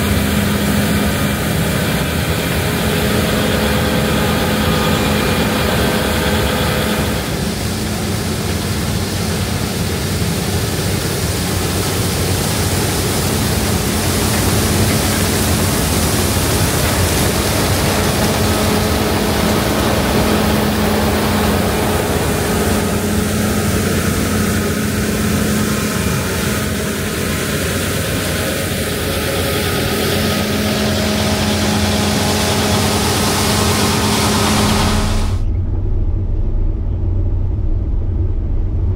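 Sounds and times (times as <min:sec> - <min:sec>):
combine harvester engine hum: 0:00.0 - 0:38.9
rushing machine noise: 0:00.0 - 0:38.9.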